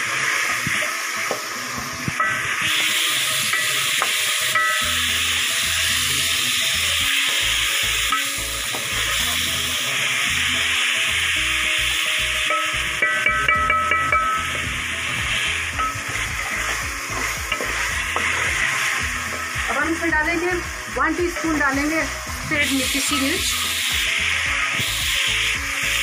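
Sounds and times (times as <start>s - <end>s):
chicken sizzling in oil: 0.0s - 26.0s
soft background music: 0.0s - 26.0s.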